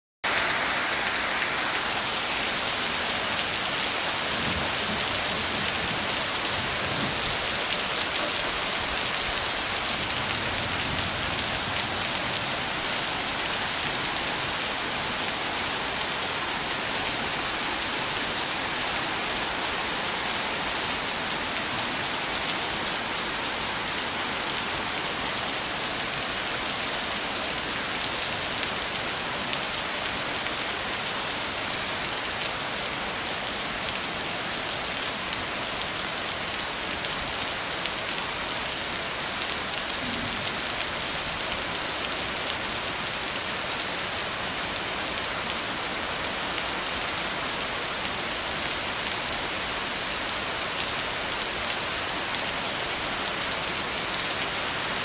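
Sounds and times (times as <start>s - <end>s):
heavy rain on dirt and plants: 0.2s - 55.0s.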